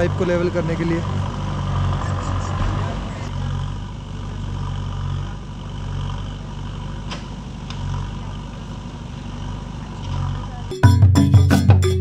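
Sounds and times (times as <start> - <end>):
excavator diesel engine rumbling: 0.0 - 10.8.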